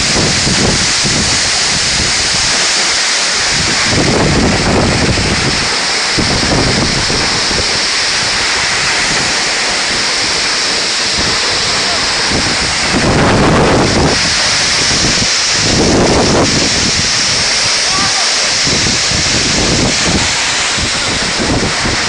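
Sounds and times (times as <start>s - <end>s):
waterfall rushing: 0.0s - 22.0s
wind buffeting microphone: 0.0s - 22.0s.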